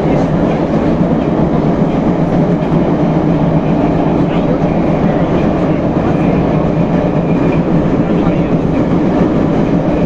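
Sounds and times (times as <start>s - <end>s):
metro train rumble: 0.0s - 10.0s.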